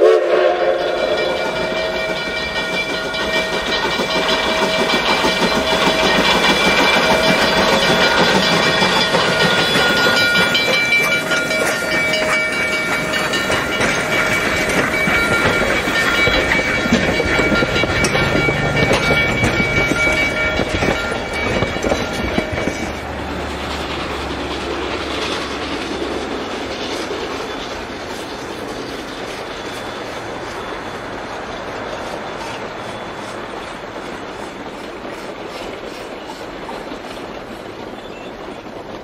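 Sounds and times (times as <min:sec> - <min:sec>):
rumble of train running: 0:00.0 - 0:39.0
train wheels clicking over rail joints: 0:00.5 - 0:39.0.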